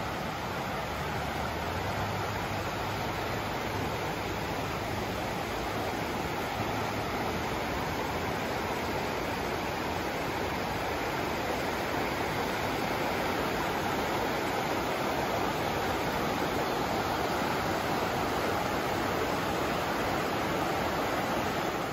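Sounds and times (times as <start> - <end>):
river water rushing over rocks: 0.0 - 21.9.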